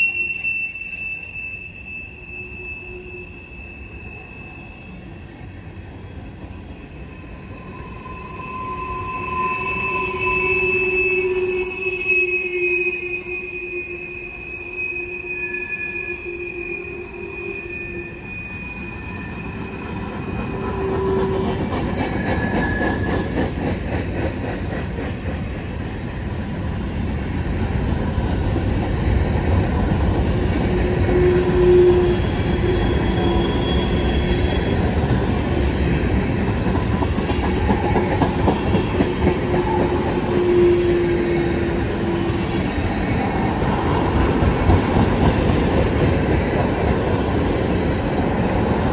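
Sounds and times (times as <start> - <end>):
train wheels squealing: 0.0 - 26.4, 30.2 - 47.2
freight train wheels rumbling: 3.0 - 48.9.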